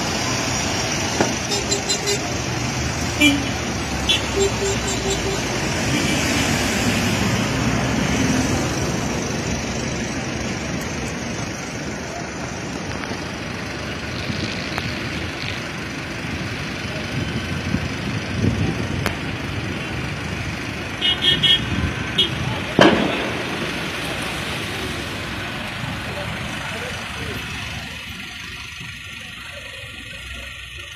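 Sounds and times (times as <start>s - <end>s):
highway traffic rumble and hiss: 0.0s - 30.9s.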